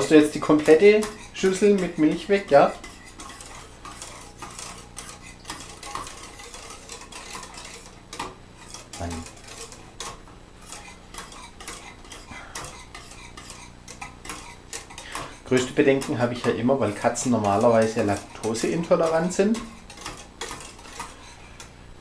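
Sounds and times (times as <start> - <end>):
whisk clinking in metal pot: 0.0 - 21.7
faint steady hum: 0.0 - 22.0.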